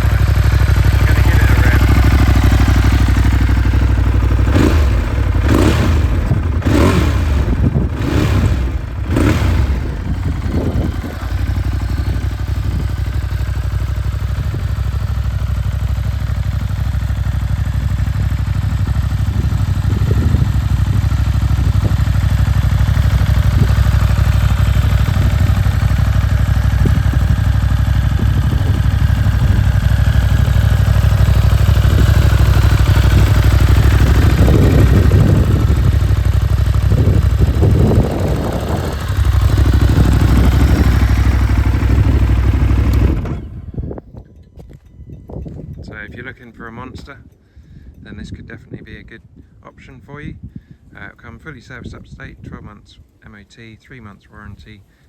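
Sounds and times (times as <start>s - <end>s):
motorcycle engine revving and idling: 0.0s - 44.1s.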